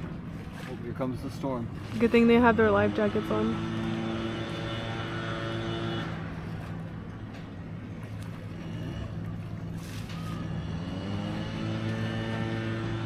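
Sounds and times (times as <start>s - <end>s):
low motor drone: 1.5s - 13.0s.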